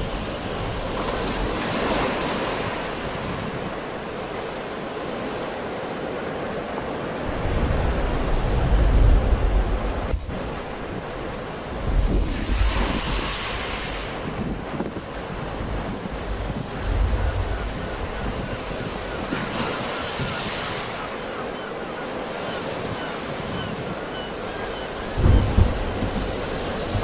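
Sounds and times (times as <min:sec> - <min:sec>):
wind buffeting microphone: 0:00.0 - 0:04.8, 0:07.0 - 0:21.4, 0:22.7 - 0:27.0
sea waves breaking: 0:00.0 - 0:27.0.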